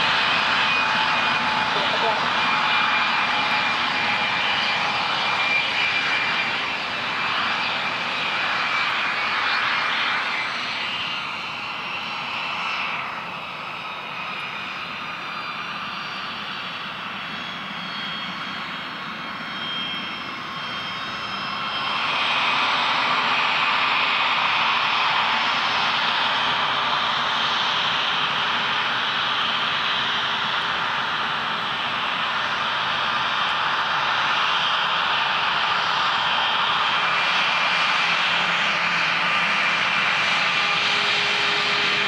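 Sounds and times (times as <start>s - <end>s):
airliner engines whining: 0.0s - 42.0s.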